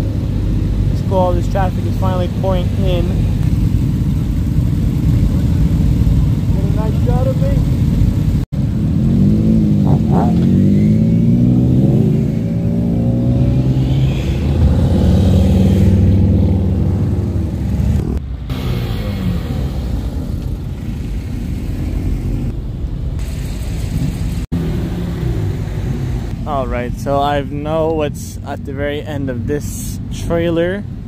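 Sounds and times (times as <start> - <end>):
engines revving: 0.0 - 22.5, 23.2 - 30.4
cars driving past: 0.0 - 27.4.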